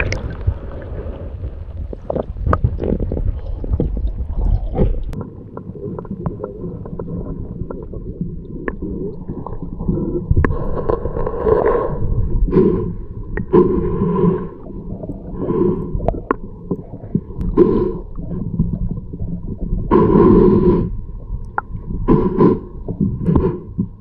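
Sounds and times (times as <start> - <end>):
low underwater rumble: 0.0 - 24.0
water gurgling underwater: 0.0 - 24.0.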